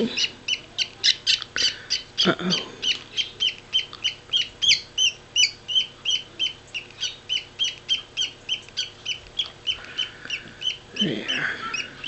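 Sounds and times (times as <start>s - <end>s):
parakeet chick chirping: 0.0s - 12.0s.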